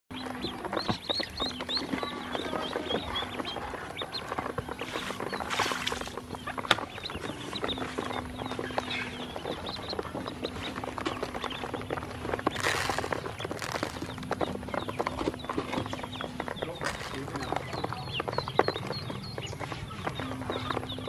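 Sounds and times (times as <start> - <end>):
ducklings peeping: 0.1 - 21.0
steady low hum: 0.1 - 21.0.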